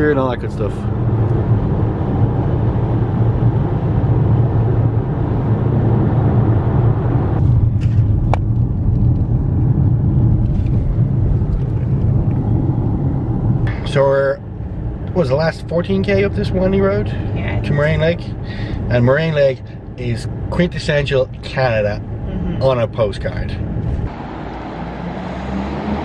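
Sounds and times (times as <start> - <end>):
car road noise drone: 0.0 - 26.0.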